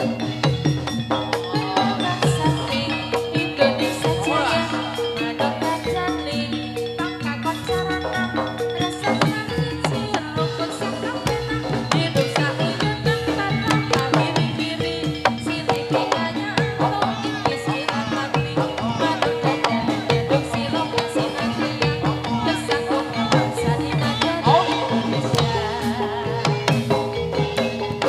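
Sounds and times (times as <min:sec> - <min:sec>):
hand drum beating: 0:00.0 - 0:28.0
metallophones ringing: 0:00.0 - 0:28.0.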